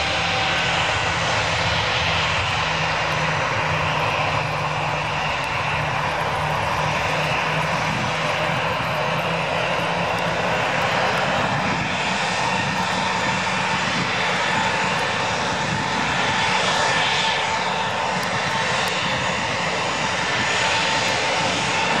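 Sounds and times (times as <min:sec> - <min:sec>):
jet engines at takeoff thrust: 0:00.0 - 0:22.0
thin steady engine whine: 0:00.0 - 0:22.0.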